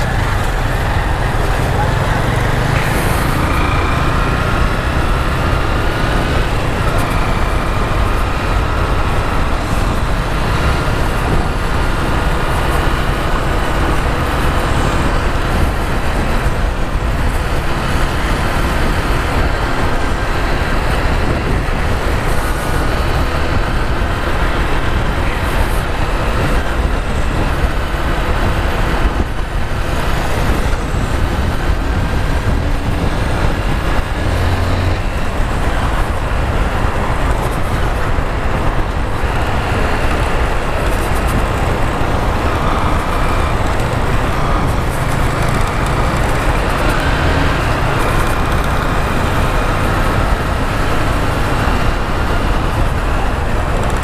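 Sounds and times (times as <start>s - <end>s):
city traffic: 0.0s - 54.0s
motorcycle engine cruising: 0.0s - 54.0s
wind rush on microphone: 0.0s - 54.0s.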